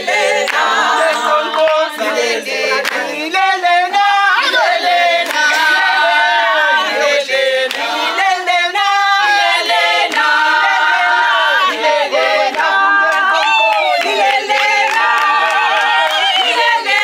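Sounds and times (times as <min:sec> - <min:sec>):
group singing in harmony: 0:00.0 - 0:17.0.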